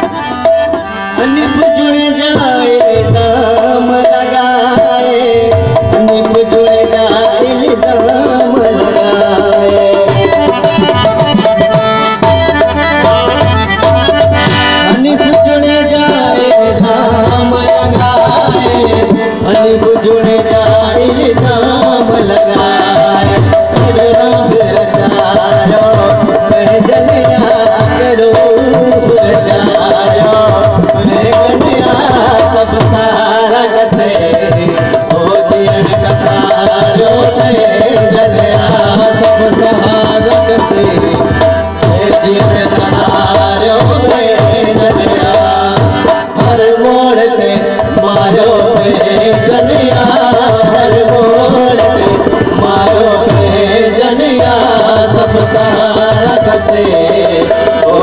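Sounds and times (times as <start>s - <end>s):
hand drum beating: 0.0s - 58.0s
man singing into microphone: 0.0s - 58.0s.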